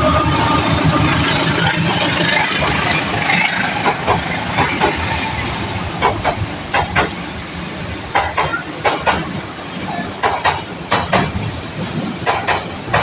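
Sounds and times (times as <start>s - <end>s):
train rumble: 0.0s - 13.0s
train wheels clattering over rail joints: 0.0s - 13.0s.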